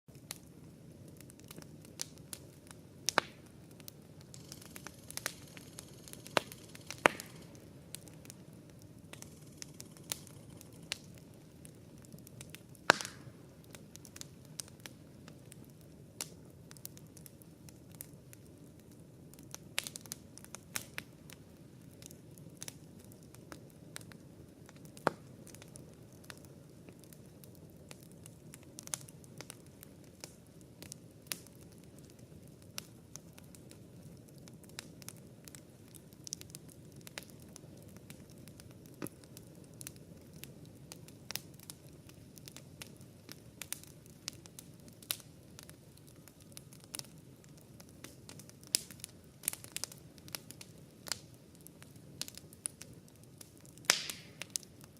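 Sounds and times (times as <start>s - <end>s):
campfire crackling: 0.1s - 54.9s.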